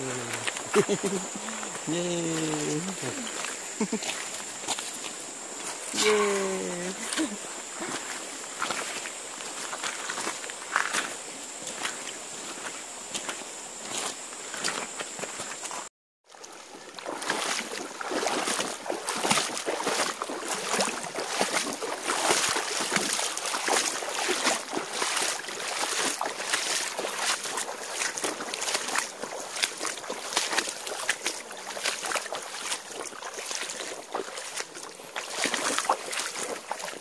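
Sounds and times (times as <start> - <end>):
splashing footsteps in water: 0.0 - 37.0.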